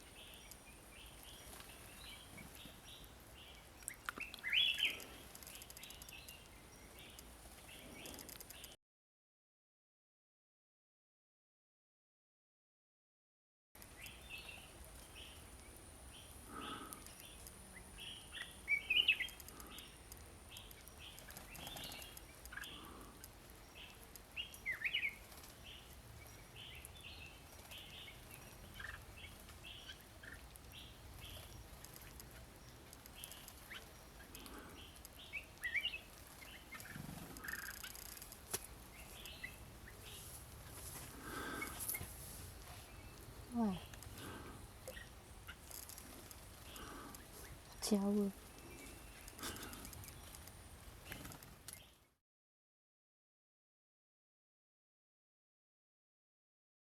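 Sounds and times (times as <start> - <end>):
birds chirping: 0.0 - 8.8, 13.8 - 52.2.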